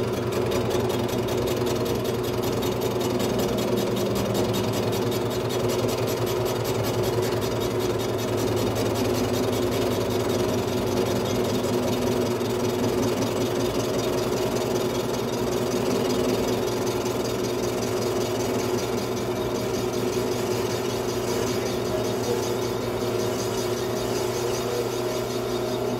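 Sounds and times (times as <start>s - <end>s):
metal lathe humming and ticking: 0.0s - 25.9s.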